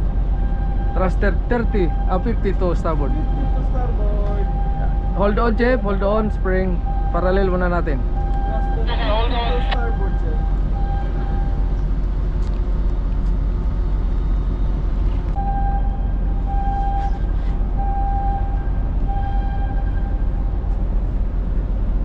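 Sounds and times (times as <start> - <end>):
low machinery rumble: 0.0 - 22.0.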